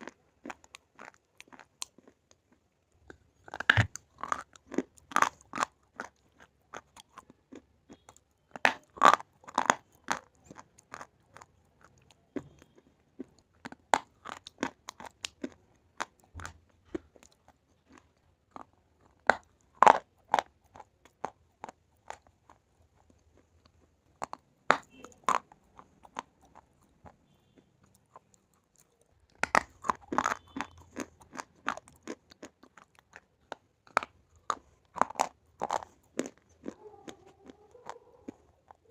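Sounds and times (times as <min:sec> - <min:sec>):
brittle crunches of chewing: 0:00.0 - 0:38.9.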